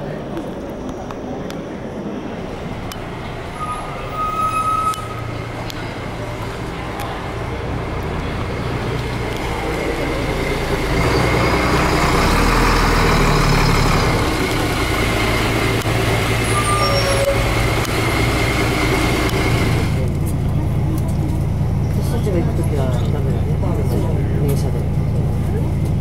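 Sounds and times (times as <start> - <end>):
diesel bus idling: 1.9 - 26.0.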